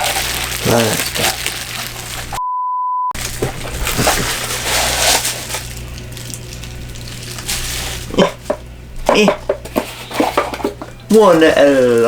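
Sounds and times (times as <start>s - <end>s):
plastic packaging rustling: 0.0s - 2.4s, 3.2s - 12.0s.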